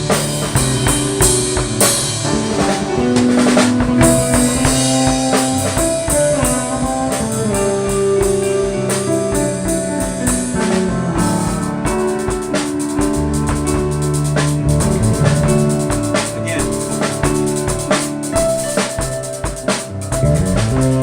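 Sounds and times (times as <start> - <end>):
band playing a song: 0.0 - 21.0
drum kit steady beat: 0.0 - 21.0.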